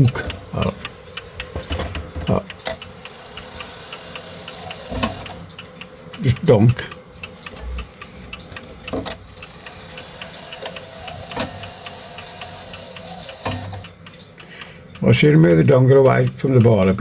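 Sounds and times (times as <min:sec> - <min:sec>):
clock mechanism whirring: 0:00.0 - 0:17.0
wall clock ticking: 0:00.0 - 0:17.0.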